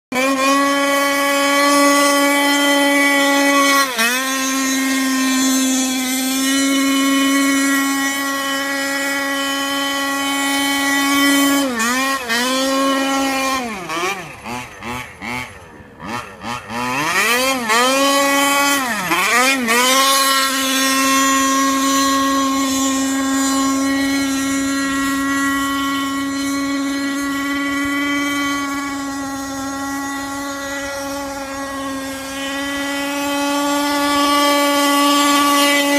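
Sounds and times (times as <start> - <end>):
two-stroke engine revving: 0.1 - 35.9.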